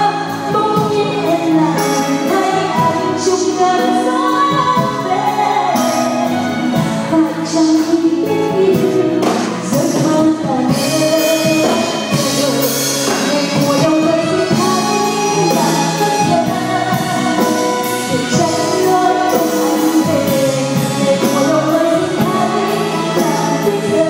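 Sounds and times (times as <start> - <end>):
drums: 0.0 - 24.0
keyboard: 0.0 - 24.0
woman singing into a microphone: 0.0 - 24.0.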